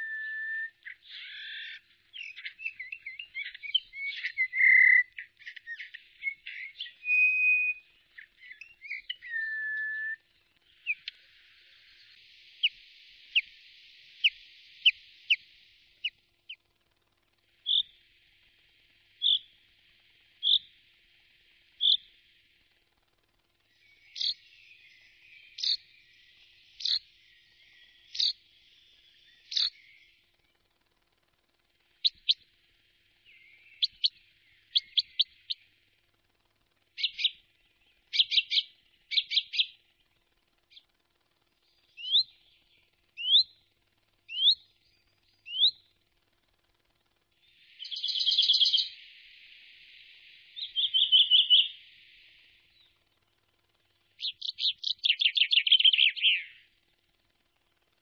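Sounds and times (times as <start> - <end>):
birds singing: 0.0 - 58.0.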